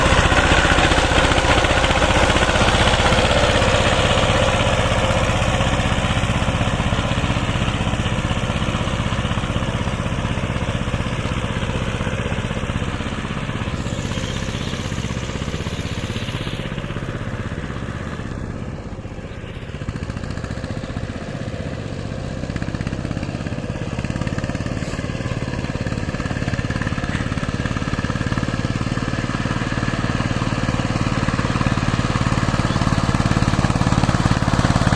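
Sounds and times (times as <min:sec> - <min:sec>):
power tiller engine running: 0:00.0 - 0:34.9.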